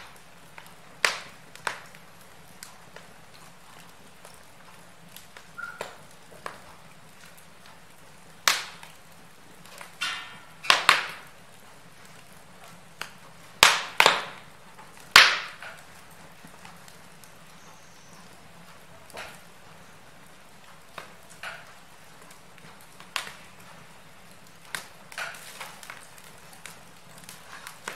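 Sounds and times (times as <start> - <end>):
sharp pops from fire: 0.0 - 27.9
wood fire crackling: 0.0 - 27.9.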